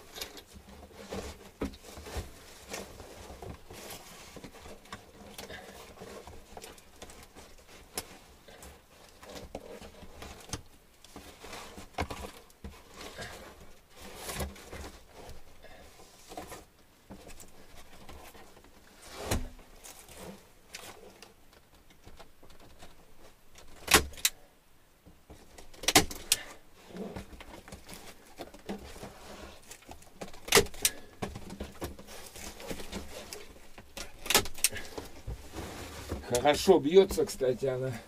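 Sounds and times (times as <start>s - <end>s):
handling rustles: 0.0s - 24.3s, 25.0s - 38.0s.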